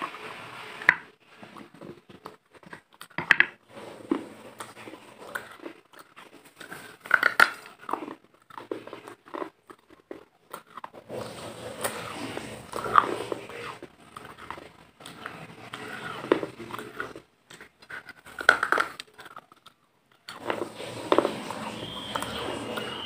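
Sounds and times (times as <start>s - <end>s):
biting and chewing crunches: 1.3s - 23.0s.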